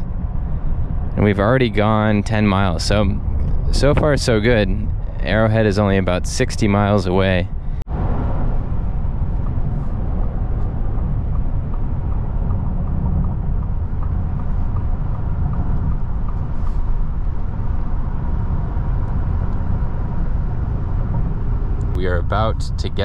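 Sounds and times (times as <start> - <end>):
tyre and road noise: 0.0 - 23.0.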